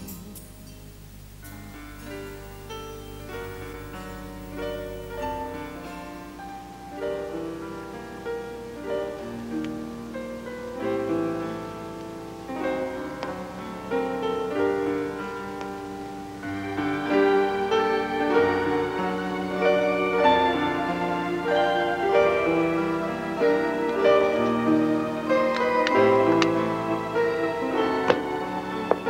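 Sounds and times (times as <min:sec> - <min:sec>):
slow piano chords: 0:00.0 - 0:29.0.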